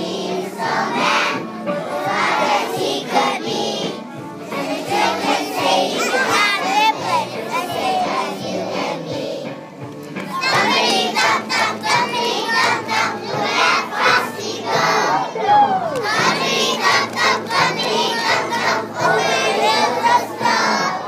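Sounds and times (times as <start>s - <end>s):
children singing loudly: 0.0s - 9.5s, 10.3s - 21.0s.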